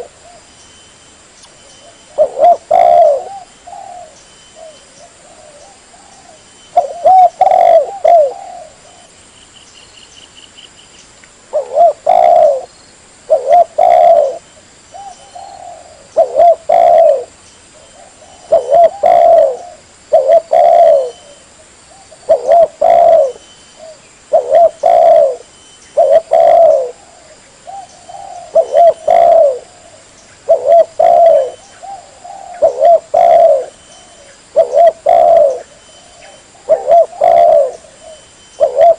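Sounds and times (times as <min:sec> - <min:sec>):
dove cooing: 0:00.0 - 0:00.5, 0:01.8 - 0:09.2, 0:11.5 - 0:12.7, 0:13.3 - 0:38.9.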